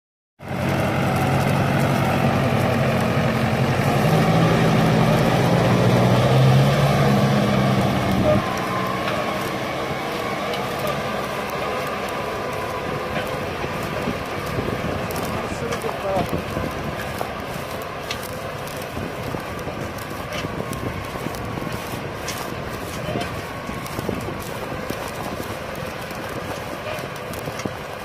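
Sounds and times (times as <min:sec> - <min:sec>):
tractor diesel engine: 0:00.4 - 0:28.0.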